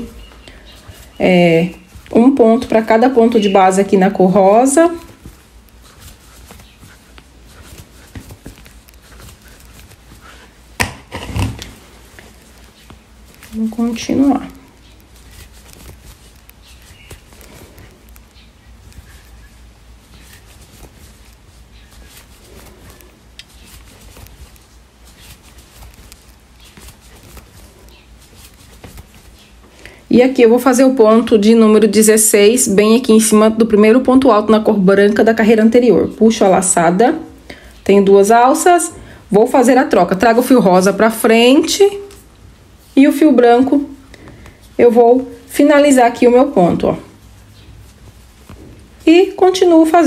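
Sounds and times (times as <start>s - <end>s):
crochet hook rustling yarn: 0.0s - 50.0s.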